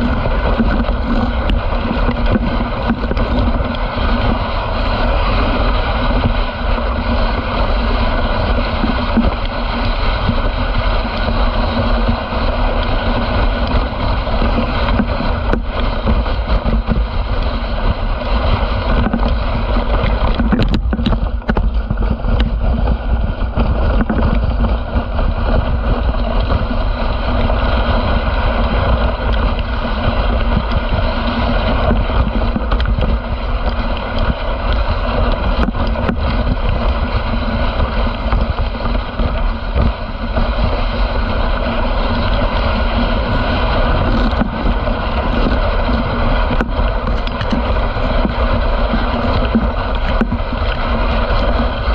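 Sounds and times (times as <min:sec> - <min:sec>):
sled runners hissing on snow: 0:00.0 - 0:51.9
wind on microphone: 0:00.0 - 0:51.9.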